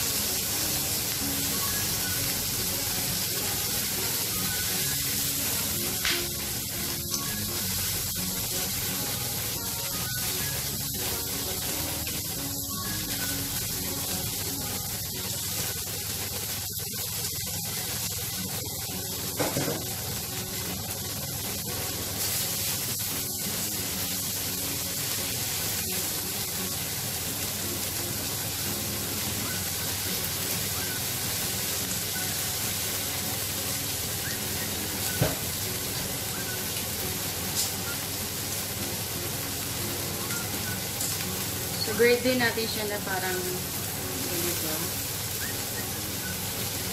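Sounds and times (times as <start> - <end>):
shrimp sizzling in hot oil: 0.0 - 46.9.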